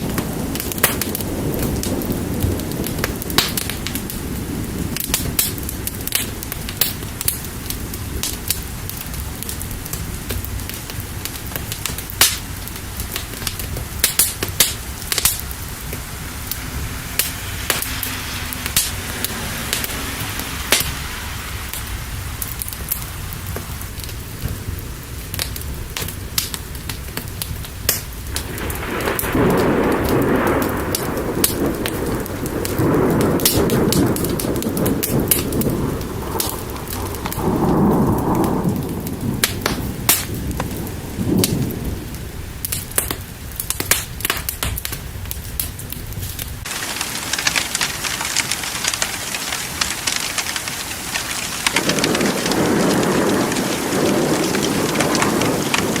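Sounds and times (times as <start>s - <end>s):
rolling thunder: 0.0s - 56.0s
steady rain: 0.0s - 56.0s
wood fire crackling: 0.0s - 56.0s.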